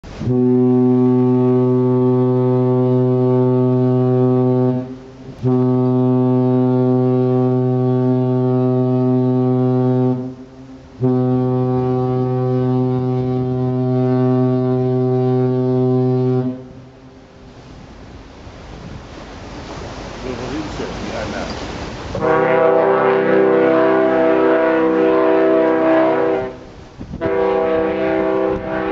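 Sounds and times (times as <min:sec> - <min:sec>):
sea noise: 0:00.0 - 0:28.9
ship's horn blasts: 0:00.0 - 0:28.9
wind: 0:00.0 - 0:28.9.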